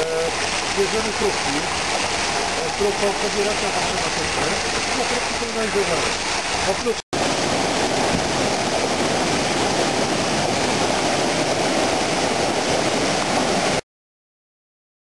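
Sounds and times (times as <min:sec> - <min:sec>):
water pouring over a weir: 0:00.0 - 0:13.8.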